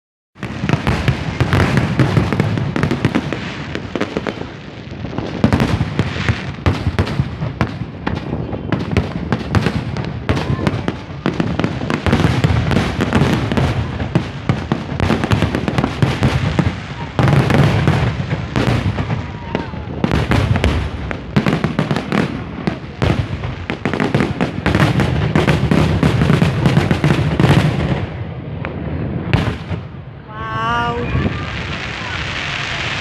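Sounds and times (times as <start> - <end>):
fireworks bangs and crackles: 0.4 - 33.0.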